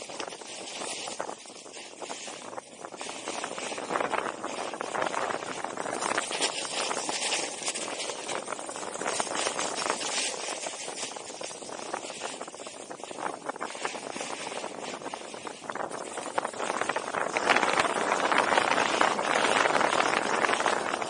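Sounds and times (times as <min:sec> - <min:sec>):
snowboard scraping over snow: 0:00.0 - 0:21.0
wind on microphone: 0:00.0 - 0:21.0.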